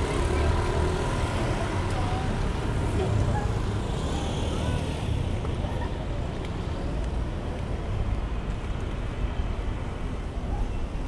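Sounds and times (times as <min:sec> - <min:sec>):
city street noise: 0:00.0 - 0:11.0.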